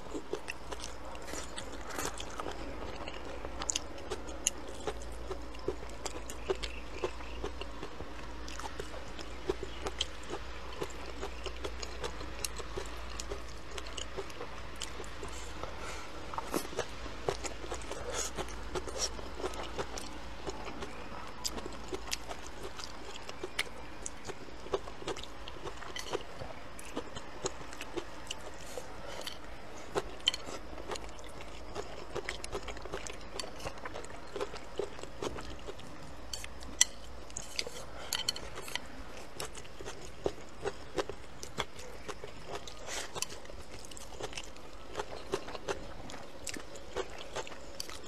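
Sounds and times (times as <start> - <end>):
person chewing: 0.0 - 48.0.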